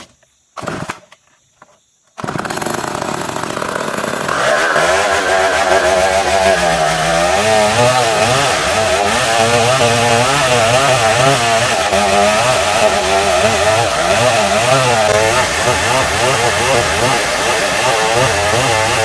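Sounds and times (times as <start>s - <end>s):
chainsaw cutting wood: 2.2s - 19.0s.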